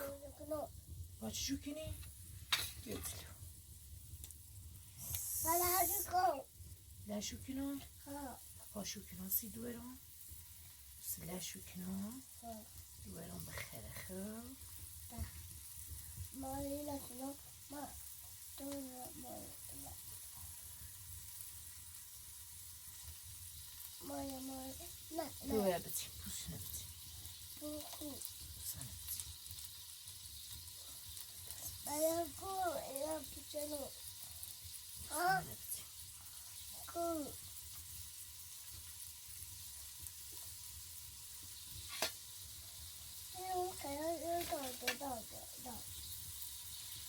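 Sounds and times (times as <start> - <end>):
food sizzling in hot oil: 0.0 - 47.0.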